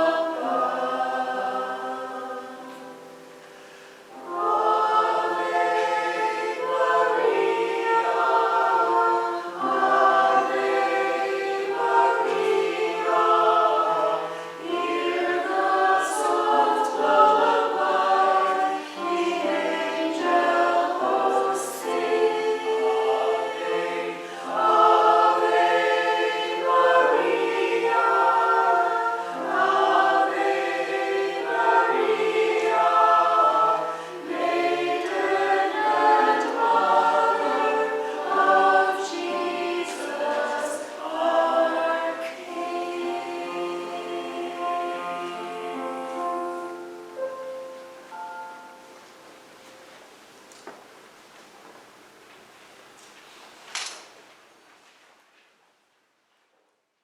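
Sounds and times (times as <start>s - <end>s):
church choir singing: 0.0s - 50.8s.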